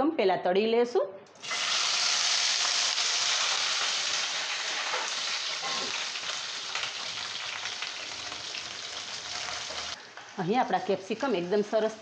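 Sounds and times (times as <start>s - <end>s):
peppers sizzling in hot oil: 1.4s - 12.0s.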